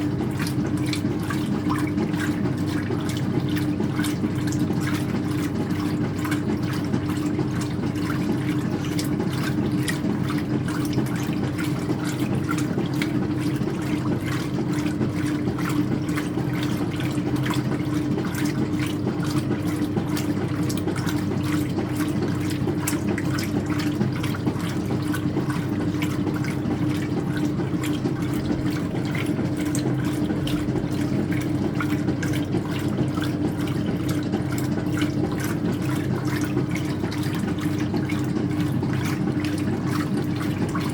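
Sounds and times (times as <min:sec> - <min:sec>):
washing machine motor hum: 0:00.0 - 0:40.9
water swishing in tub: 0:00.0 - 0:40.9.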